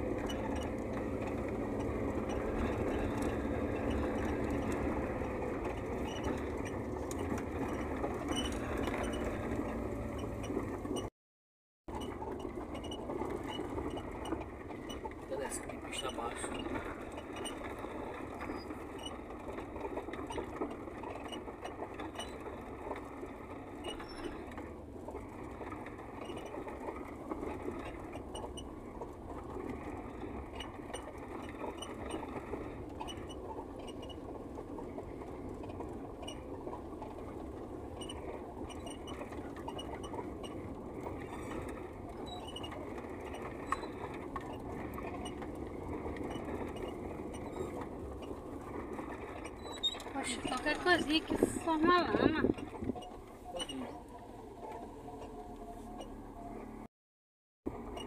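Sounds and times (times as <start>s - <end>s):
car engine and tyre noise: 0.0s - 11.1s, 11.9s - 56.9s, 57.7s - 58.0s
ticks and rattles: 0.0s - 11.1s, 11.9s - 55.4s.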